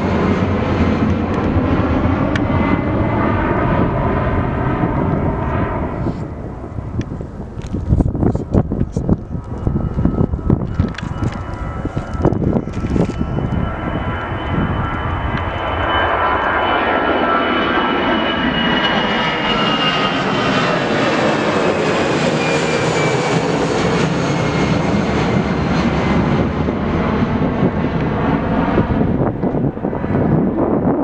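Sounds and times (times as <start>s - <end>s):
jet airliner passing: 0.0s - 31.0s
jet engine whine: 0.0s - 31.0s.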